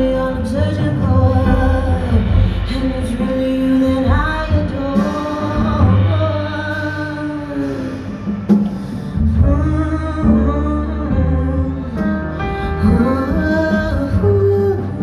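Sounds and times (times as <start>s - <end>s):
woman singing jazz: 0.0s - 8.5s, 9.2s - 15.0s
double bass: 0.0s - 15.0s.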